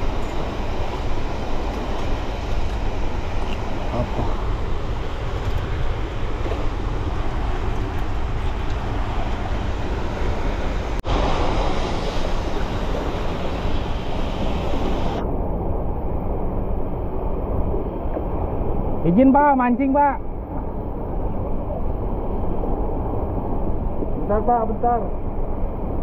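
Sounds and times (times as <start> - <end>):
rushing water current: 0.0 - 26.0
wind on microphone: 0.0 - 26.0.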